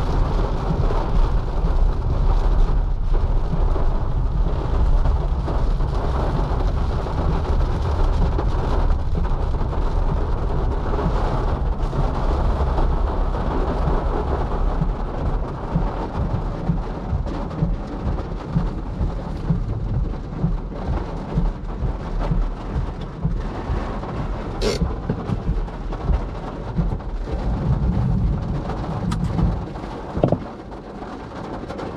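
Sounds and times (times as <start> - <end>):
heavy rain drumming on a car: 0.0 - 31.9.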